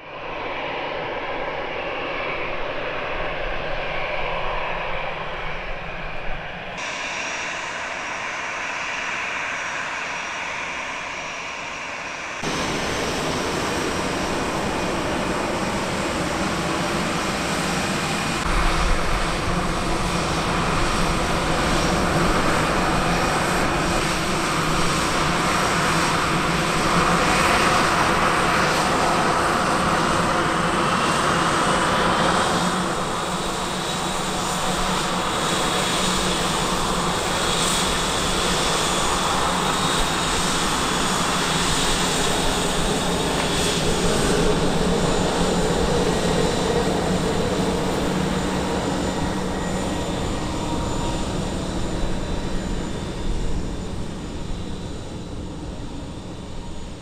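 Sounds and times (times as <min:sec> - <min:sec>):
jet engines hum and whine: 0:00.0 - 0:57.0.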